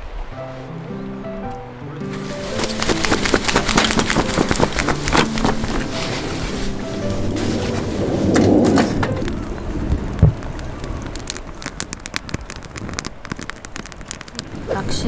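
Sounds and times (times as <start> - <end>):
campfire crackling and popping: 1.5 - 15.0
rushing noise: 1.8 - 15.0.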